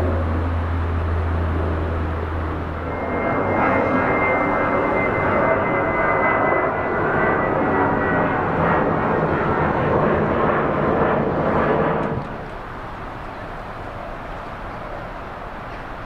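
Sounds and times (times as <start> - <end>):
airliner engines running: 0.0 - 16.0.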